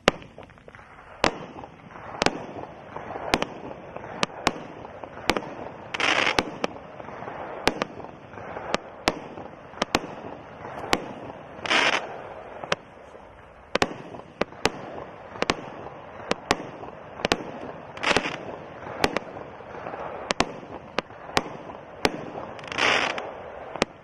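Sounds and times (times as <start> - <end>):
fireworks reports: 0.0 - 24.0
fireworks stars bursting: 0.0 - 24.0.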